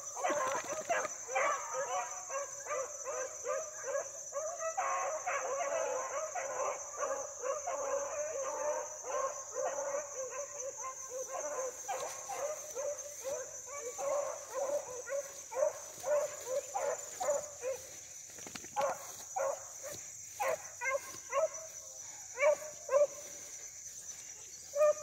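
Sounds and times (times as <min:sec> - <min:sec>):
dogs barking and yelping: 0:00.0 - 0:25.0.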